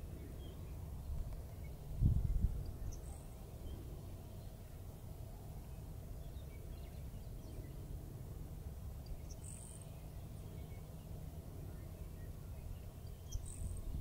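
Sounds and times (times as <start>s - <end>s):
bird ticks and buzzes: 0.0s - 5.0s, 5.8s - 14.0s
low steady rumble: 0.0s - 14.0s.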